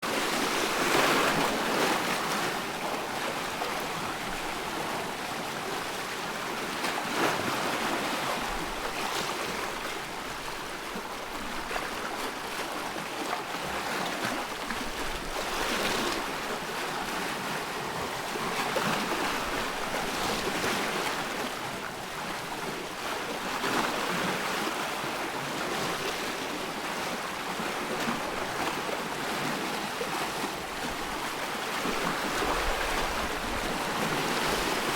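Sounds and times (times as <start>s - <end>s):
small waves washing in: 0.0s - 34.9s.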